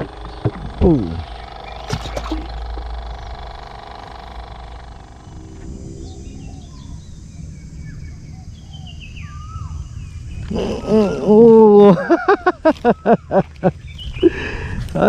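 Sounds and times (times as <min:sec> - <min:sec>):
birds chirping: 0:00.0 - 0:15.0
droning hum: 0:00.0 - 0:15.0.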